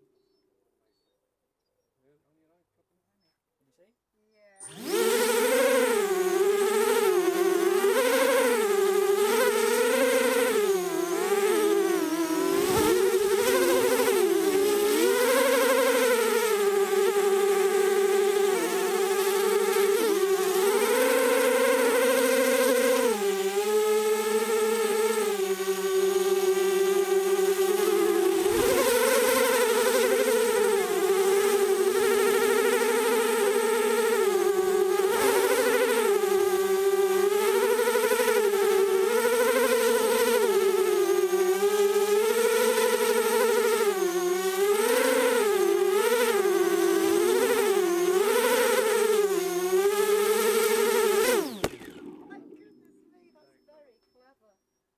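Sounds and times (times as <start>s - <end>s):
quadcopter motors whining: 3.8s - 54.7s.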